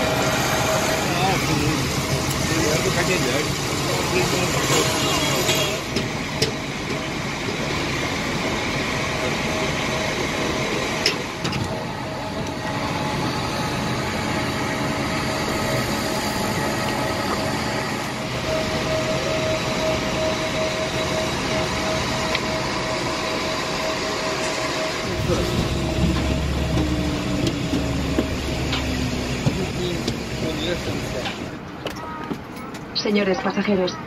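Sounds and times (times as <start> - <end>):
airplane cabin hum: 4.1 - 32.5.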